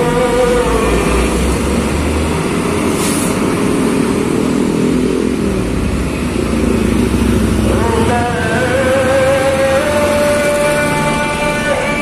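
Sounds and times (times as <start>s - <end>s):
heavy trucks and motorcycles passing: 0.0s - 12.0s.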